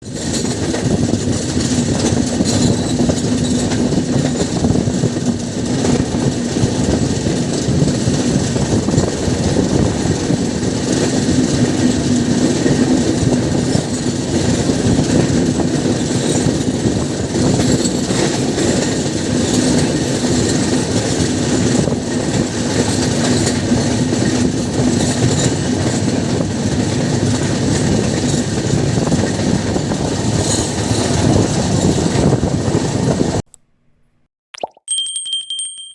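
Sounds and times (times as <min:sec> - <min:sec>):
train wheels rumbling on rail: 0:00.0 - 0:33.4.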